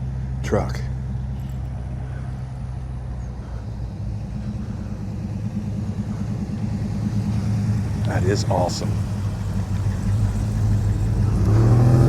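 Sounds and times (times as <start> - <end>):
vehicle engine cruising past: 1.1 - 12.0.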